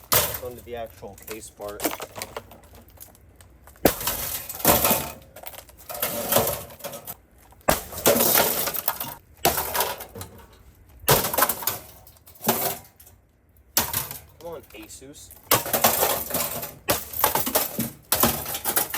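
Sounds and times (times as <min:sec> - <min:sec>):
crunching and rattling parts: 0:00.0 - 0:18.9.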